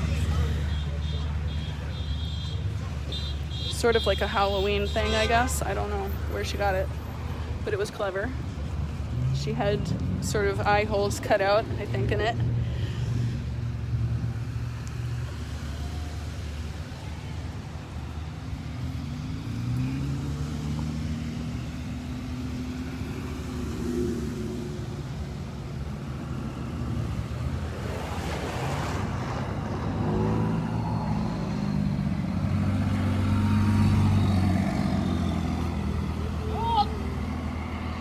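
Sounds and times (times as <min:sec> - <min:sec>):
cars passing slowly: 0:00.0 - 0:38.0.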